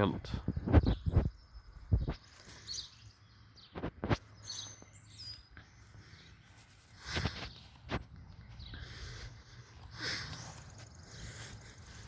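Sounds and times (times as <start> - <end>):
faint outdoor background noise: 0.0 - 12.0
small bird chirping: 0.5 - 12.0.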